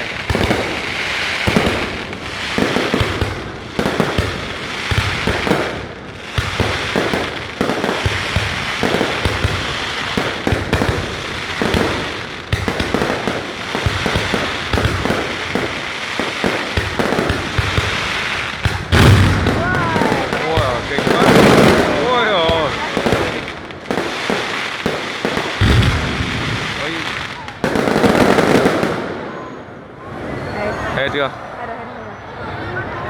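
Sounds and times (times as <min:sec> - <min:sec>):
fireworks bangs and crackling: 0:00.0 - 0:31.3.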